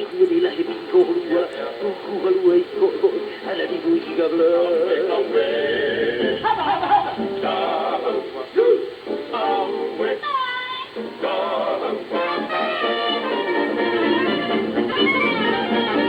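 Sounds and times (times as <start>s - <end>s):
music with singing over radio: 0.0s - 16.0s.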